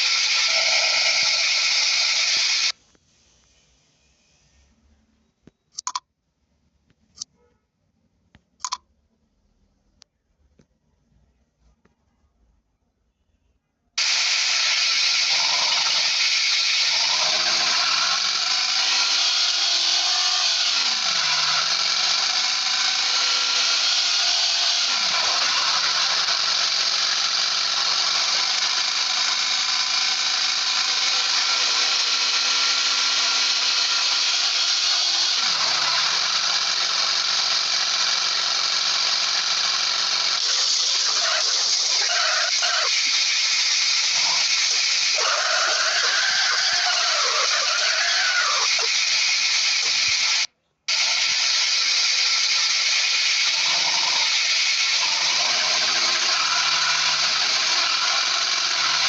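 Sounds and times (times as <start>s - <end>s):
power tool motor whining: 0.0s - 2.8s, 14.0s - 59.0s.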